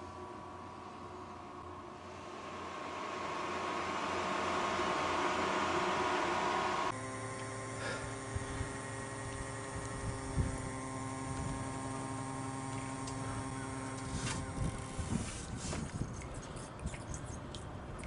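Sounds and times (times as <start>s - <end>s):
steady hum of even tones: 0.0s - 18.0s.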